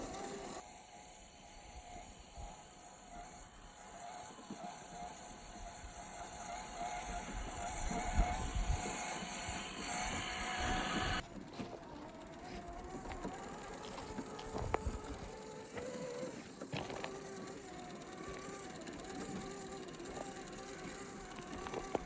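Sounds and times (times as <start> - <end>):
toy car motor whine: 0.0 - 22.0.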